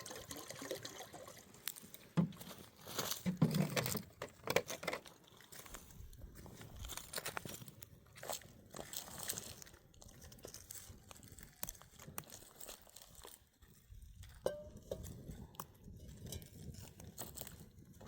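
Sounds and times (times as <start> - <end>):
dry twigs crunching and snapping: 2.8 - 14.4, 15.0 - 18.0.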